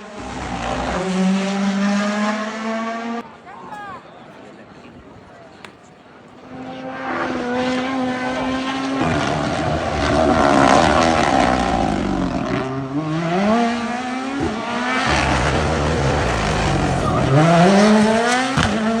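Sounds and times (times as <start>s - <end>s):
rally car accelerating: 0.0s - 3.2s, 6.5s - 19.0s.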